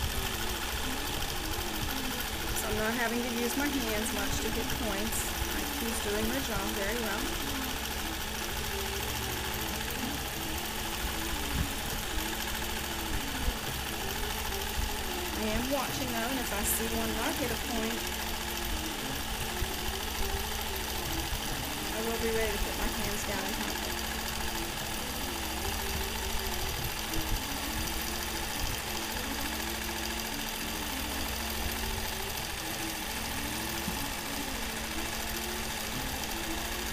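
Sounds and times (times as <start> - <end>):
quilting machine stitching: 0.0 - 36.9.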